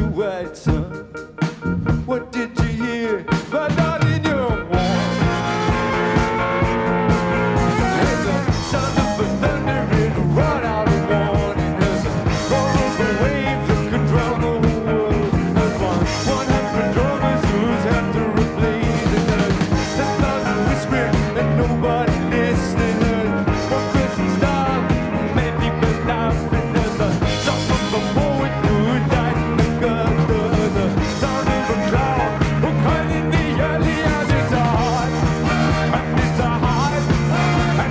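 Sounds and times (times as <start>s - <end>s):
drums: 0.0s - 37.9s
electric bass: 0.0s - 37.9s
electric guitars: 0.0s - 37.9s.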